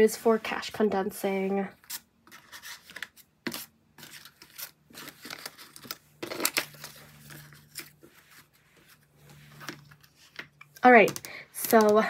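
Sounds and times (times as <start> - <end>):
banknotes rustling: 1.8 - 12.0.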